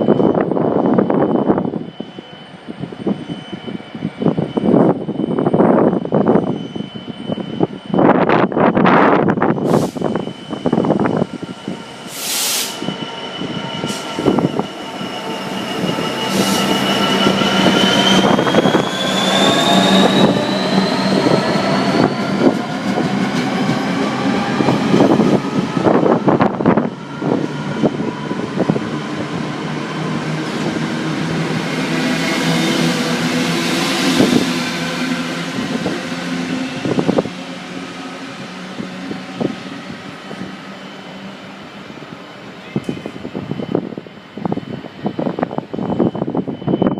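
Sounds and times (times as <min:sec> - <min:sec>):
high whine rising in pitch: 0:00.0 - 0:46.9.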